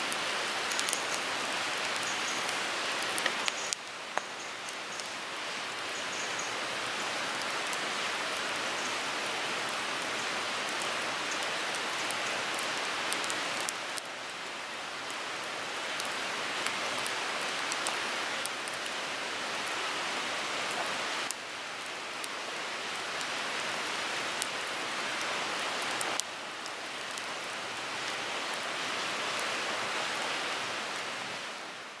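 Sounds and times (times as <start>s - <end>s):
wood fire hissing and crackling: 0.0s - 32.0s.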